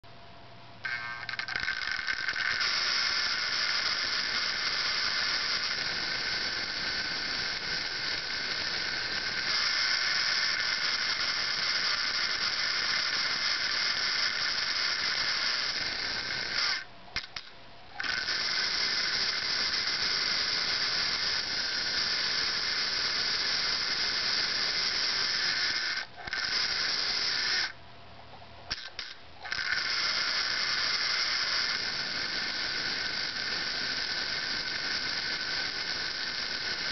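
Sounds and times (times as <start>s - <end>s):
model train motor whining: 0.8s - 27.8s, 28.7s - 36.9s.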